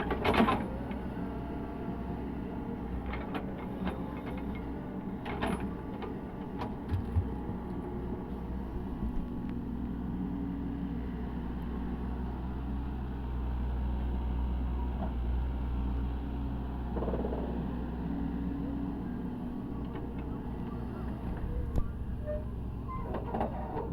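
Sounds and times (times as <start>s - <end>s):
excavator diesel engine running: 0.0s - 23.9s.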